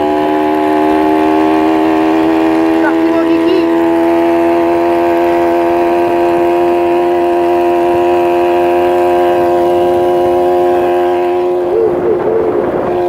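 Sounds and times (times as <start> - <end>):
moped engine running: 0.0 - 13.0.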